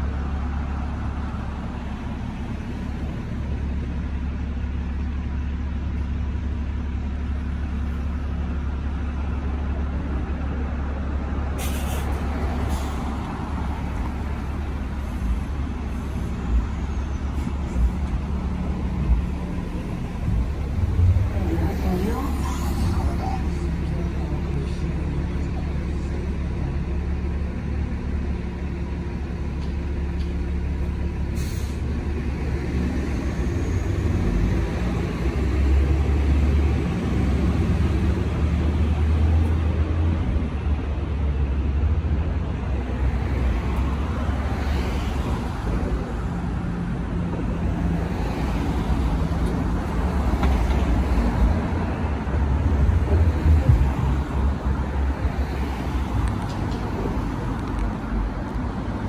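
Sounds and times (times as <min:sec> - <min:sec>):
vehicle engines rumbling: 0:00.0 - 0:59.0.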